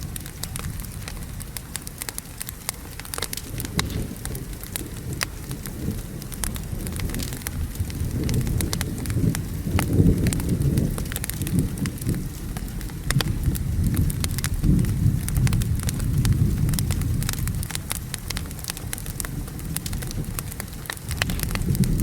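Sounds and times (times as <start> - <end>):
rain hiss: 0.0 - 22.0
rumble of thunder: 0.0 - 22.0
wood fire crackling: 0.0 - 22.0.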